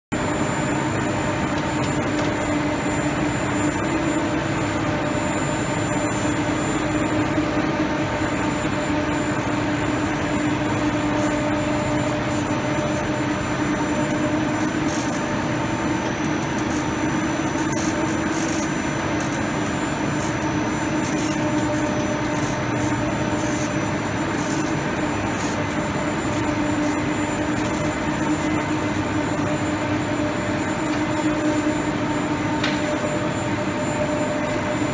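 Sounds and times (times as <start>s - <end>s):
steady machine hum: 0.1s - 34.9s.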